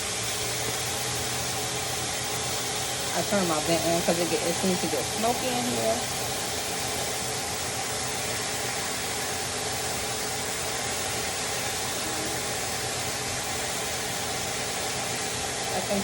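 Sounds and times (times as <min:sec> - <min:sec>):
range hood fan running: 0:00.0 - 0:16.0.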